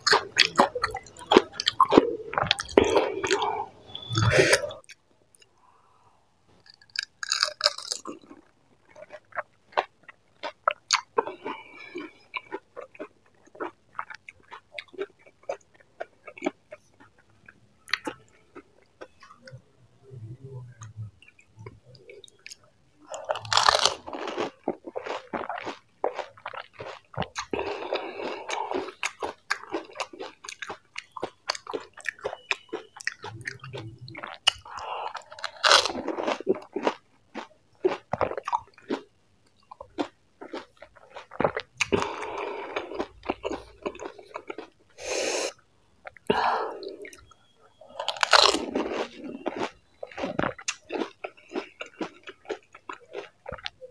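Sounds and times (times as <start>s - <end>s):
crunchy food chewing: 0.0s - 5.5s, 6.6s - 19.4s, 21.2s - 45.2s, 47.0s - 53.9s.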